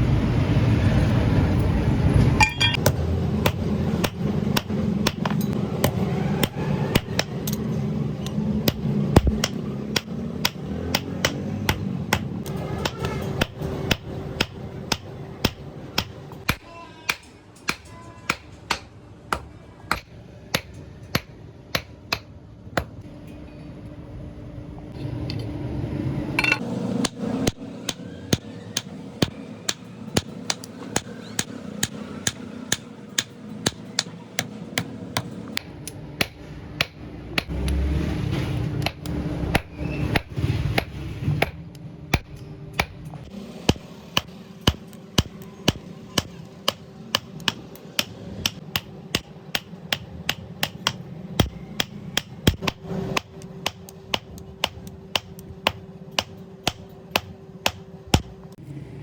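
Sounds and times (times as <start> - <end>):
hammer striking steel on anvil: 2.4 - 23.6, 26.4 - 37.6, 38.8 - 58.5.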